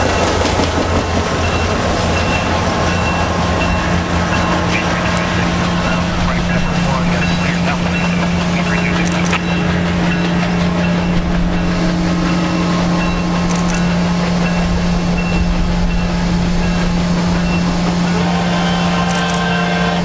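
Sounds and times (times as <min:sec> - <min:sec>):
distant train rumble: 0:00.0 - 0:20.0
loud low hum: 0:01.0 - 0:20.0.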